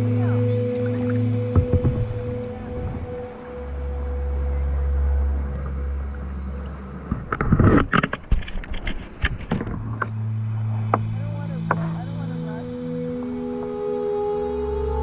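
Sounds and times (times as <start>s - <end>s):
water splashing and sloshing: 0.0s - 12.4s
wind rumble on microphone: 0.0s - 12.7s.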